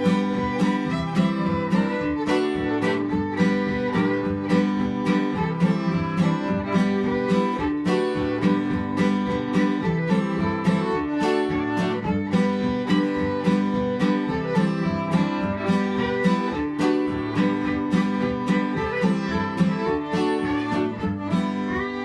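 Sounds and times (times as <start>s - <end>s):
fiddle melody: 0.0s - 22.0s
strummed acoustic guitar: 0.0s - 22.0s.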